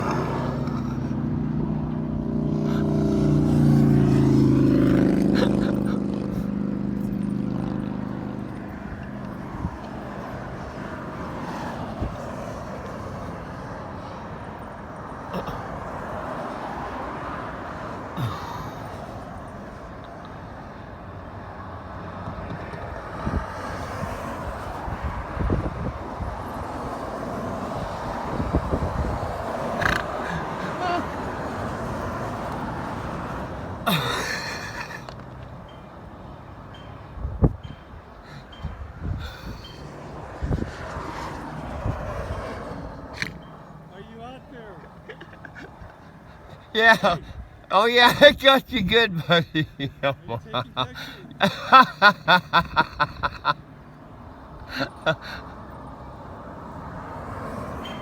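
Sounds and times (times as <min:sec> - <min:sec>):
vehicle passing by: 0:00.0 - 0:19.9, 0:22.3 - 0:33.9, 0:38.2 - 0:51.4, 0:52.0 - 0:58.0
steady traffic noise: 0:00.0 - 0:58.0.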